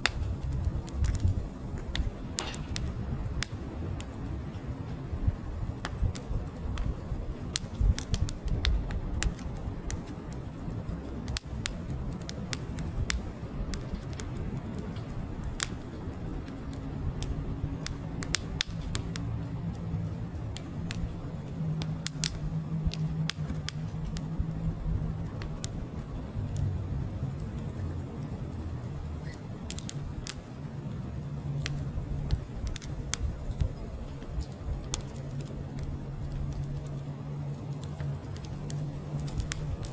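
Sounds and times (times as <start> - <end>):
firewood crackling and popping: 0.0 - 39.9
flames rumbling: 0.0 - 39.9.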